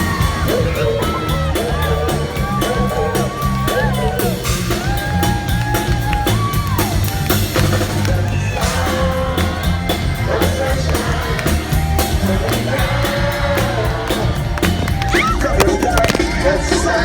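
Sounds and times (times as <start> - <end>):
person singing: 0.0 - 6.4, 7.8 - 17.0
drum kit beat: 0.0 - 17.0
heavy bass: 0.0 - 17.0
live band music: 0.0 - 17.0.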